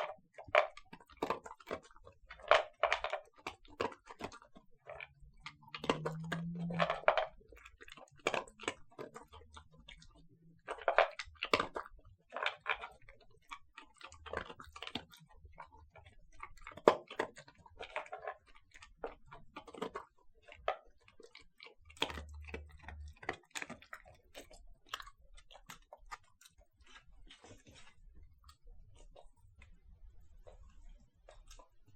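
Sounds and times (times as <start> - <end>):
kibble clicking on plastic bowl: 0.0 - 27.9
dog crunching kibble: 0.0 - 31.9.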